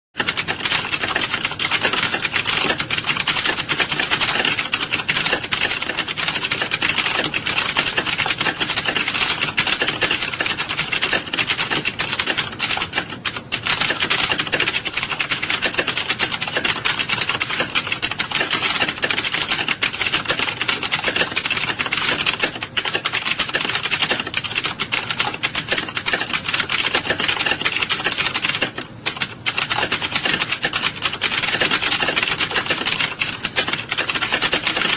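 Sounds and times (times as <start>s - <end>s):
keyboards clattering: 0.2s - 34.9s.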